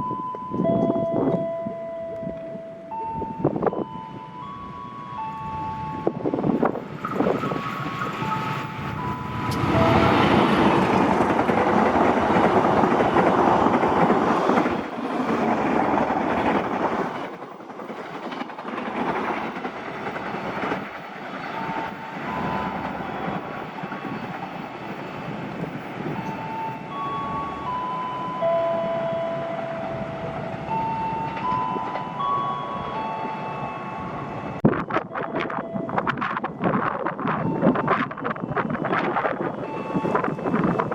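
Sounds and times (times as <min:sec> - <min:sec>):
train passing at speed: 0:00.0 - 0:40.9.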